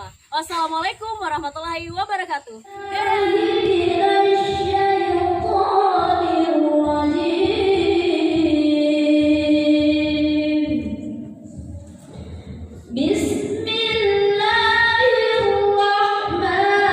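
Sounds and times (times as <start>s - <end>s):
woman chanting recitation: 0.0s - 11.5s, 12.9s - 16.9s.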